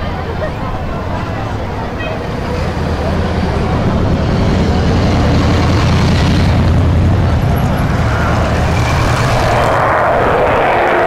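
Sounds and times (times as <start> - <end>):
loud jet roar: 0.0 - 11.0.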